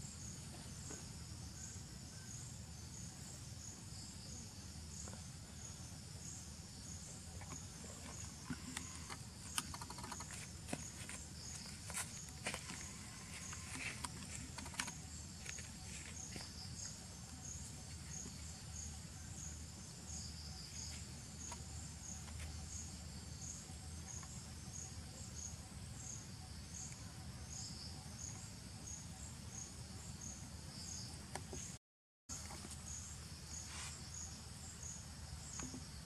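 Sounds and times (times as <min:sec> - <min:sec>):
insect chirping: 0:00.0 - 0:36.0.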